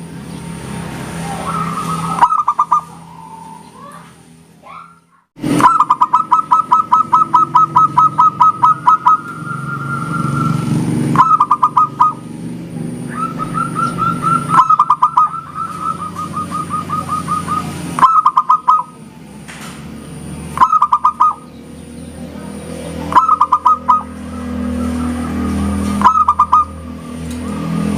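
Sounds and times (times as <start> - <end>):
doves singing and cooing: 0.2 - 27.9.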